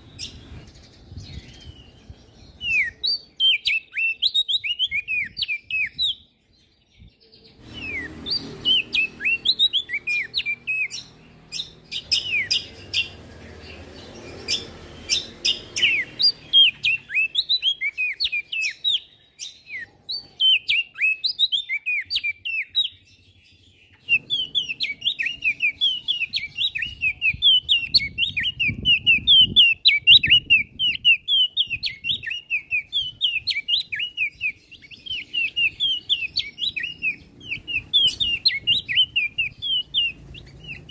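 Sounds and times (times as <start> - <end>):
bird singing high chirping notes: 0.0 - 40.9.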